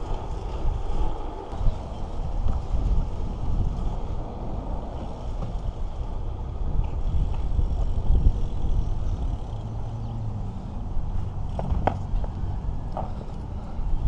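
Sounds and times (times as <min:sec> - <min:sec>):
road noise from bike: 0:00.0 - 0:14.0
wind buffeting microphone: 0:00.0 - 0:14.0.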